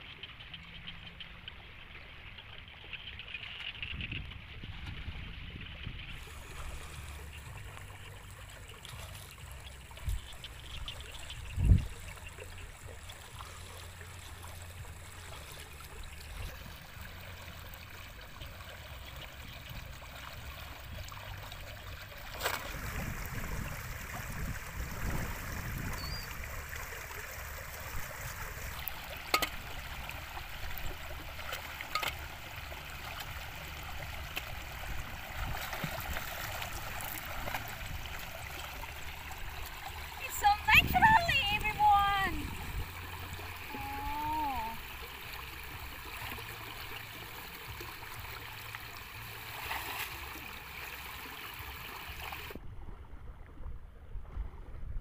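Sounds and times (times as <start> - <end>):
floodwater sloshing: 6.1 - 54.7.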